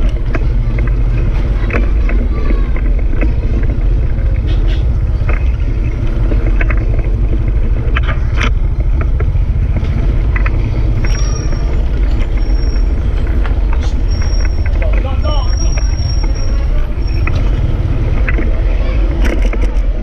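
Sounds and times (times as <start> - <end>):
clicks and rattles: 0.0 - 20.0
motorcycle engine rumble: 0.0 - 20.0.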